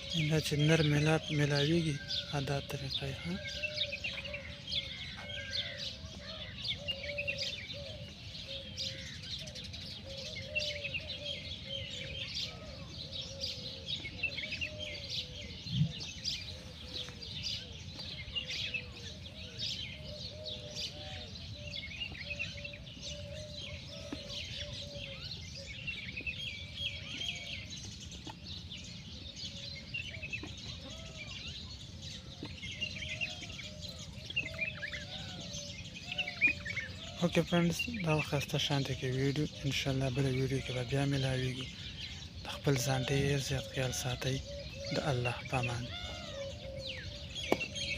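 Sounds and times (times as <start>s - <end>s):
low arched bird calls: 0.0s - 47.9s
small birds chirping: 0.0s - 47.9s.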